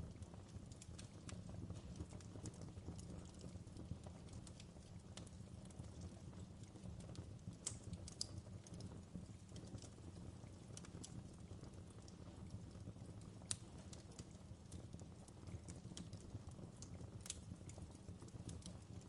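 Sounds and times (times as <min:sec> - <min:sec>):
fireplace crackling: 0:00.0 - 0:19.0.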